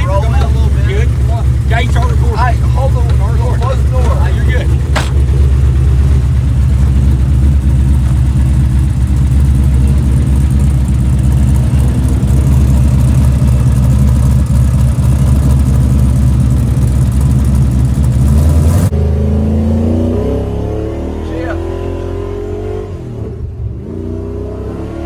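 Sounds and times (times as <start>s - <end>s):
vehicle engine rumbling: 0.0s - 21.8s.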